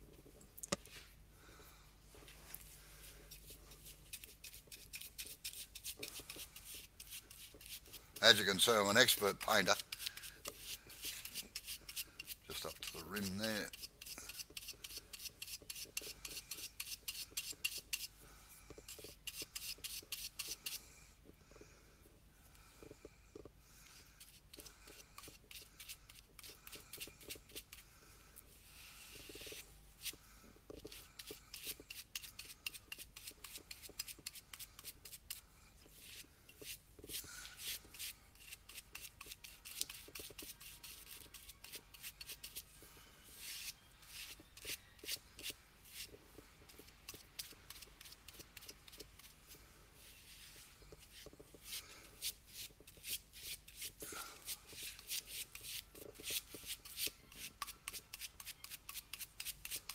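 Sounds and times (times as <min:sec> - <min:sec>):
scratchy paintbrush strokes: 0:02.1 - 0:21.7, 0:22.5 - 0:59.9.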